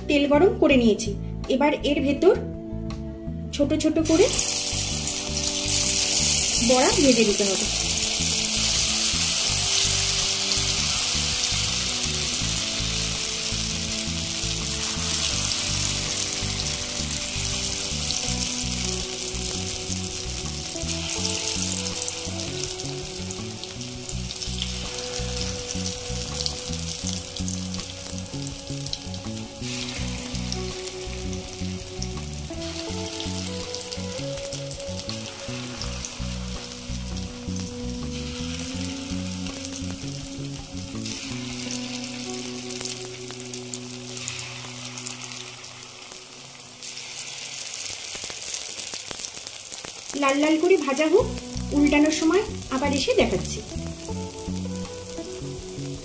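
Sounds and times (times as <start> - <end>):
fritters sizzling in hot oil: 4.1 - 56.0.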